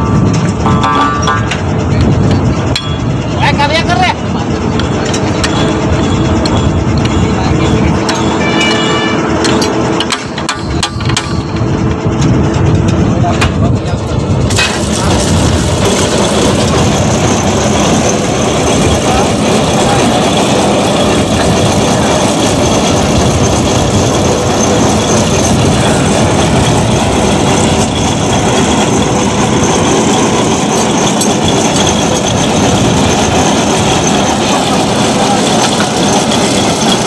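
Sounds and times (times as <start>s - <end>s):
drilling rig engine running: 0.0s - 37.0s.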